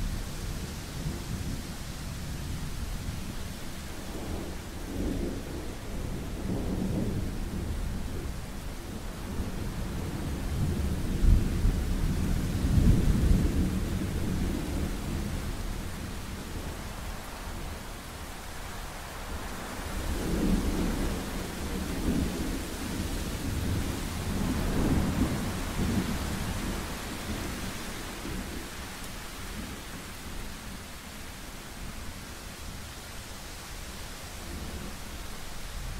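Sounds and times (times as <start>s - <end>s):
steady rain hissing: 0.0s - 35.9s.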